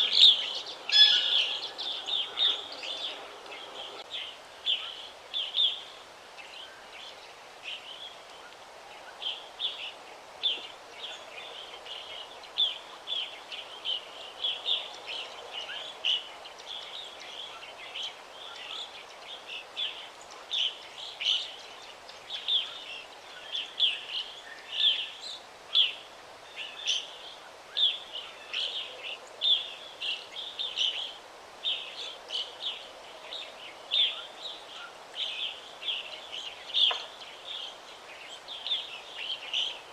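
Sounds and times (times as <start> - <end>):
faint background noise: 0.0 - 39.9
songbirds chirping: 0.0 - 39.9.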